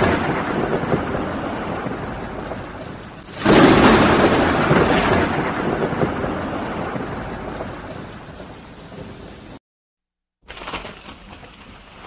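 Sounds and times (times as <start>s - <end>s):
thunder clap and rolling: 0.0s - 9.6s, 10.5s - 12.0s.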